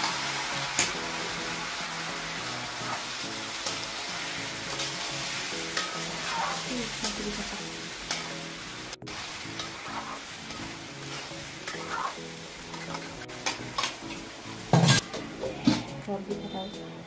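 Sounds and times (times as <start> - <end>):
spatula scraping wok: 0.0 - 15.1
rice sizzling: 0.0 - 17.0.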